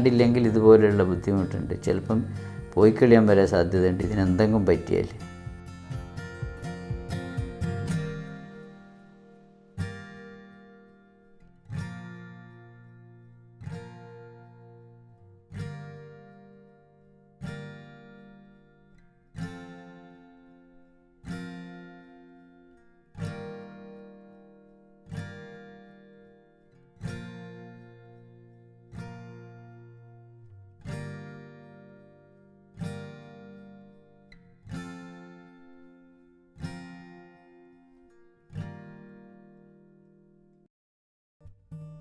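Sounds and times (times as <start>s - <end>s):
acoustic guitar chords strummed: 0.0s - 40.7s.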